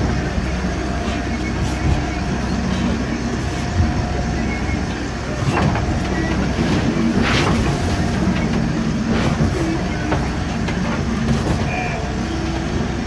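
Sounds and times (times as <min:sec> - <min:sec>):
boat diesel engine running: 0:00.0 - 0:13.0.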